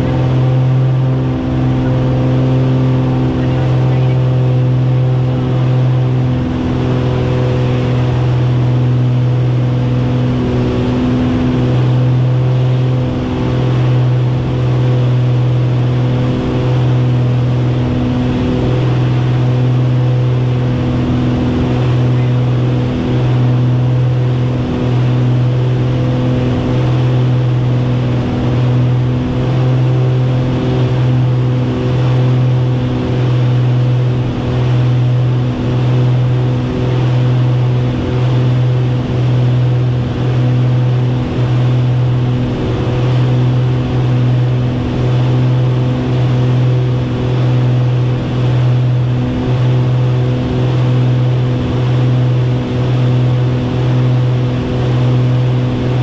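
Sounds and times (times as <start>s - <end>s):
aircraft engines droning: 0.0s - 56.0s
rush of noise: 0.0s - 56.0s.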